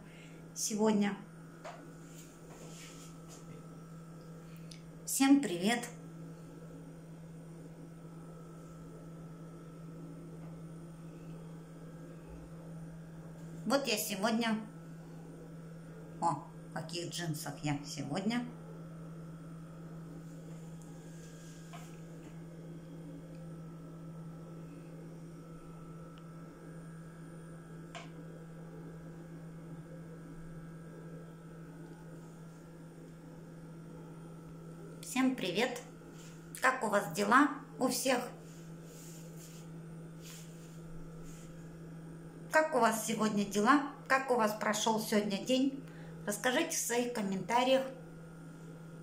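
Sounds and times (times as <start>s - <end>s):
faint high whine: 0.0s - 49.0s
low electrical hum: 0.0s - 49.0s.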